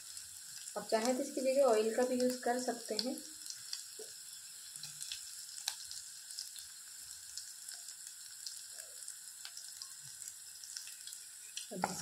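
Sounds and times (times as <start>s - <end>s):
garlic and ginger sizzling: 0.0s - 12.0s.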